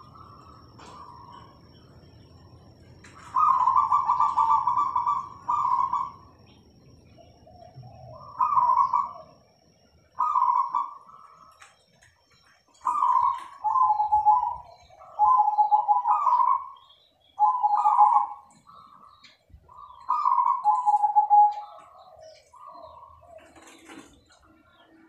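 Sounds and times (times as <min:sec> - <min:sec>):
doves cooing: 0:00.0 - 0:25.0.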